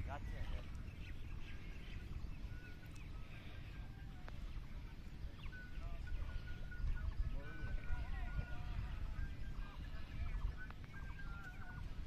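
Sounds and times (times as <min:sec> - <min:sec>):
faint bird calls: 0:00.0 - 0:12.0
faint voices: 0:00.0 - 0:12.0
steady low rumble: 0:00.0 - 0:12.0.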